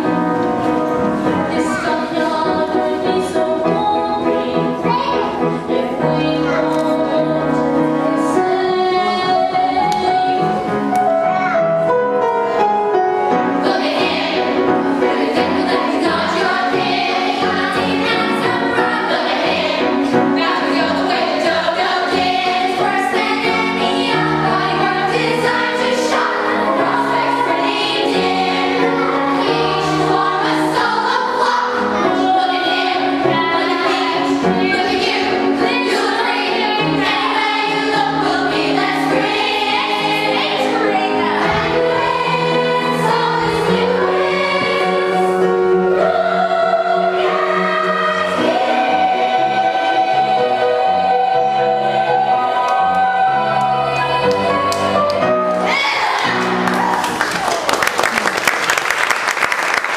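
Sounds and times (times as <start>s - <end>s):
young ensemble singing: 0.0s - 11.2s, 13.2s - 56.8s
musical accompaniment: 0.0s - 59.9s.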